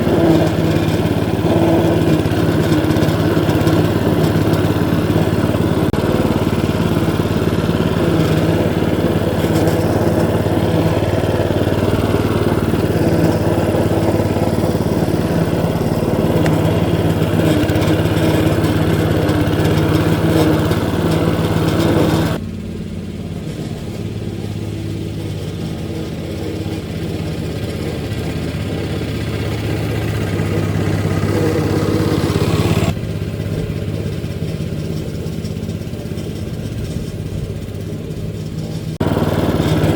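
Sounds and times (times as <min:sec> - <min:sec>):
blades working through turf: 0:00.0 - 0:39.9
lawn scarifier engine running: 0:00.0 - 0:39.9.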